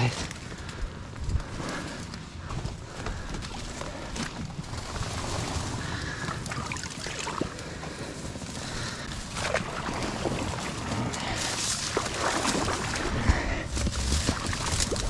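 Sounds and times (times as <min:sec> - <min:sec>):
reeds rustling against boat: 0:00.0 - 0:15.0
water sloshing around hull: 0:02.7 - 0:15.0.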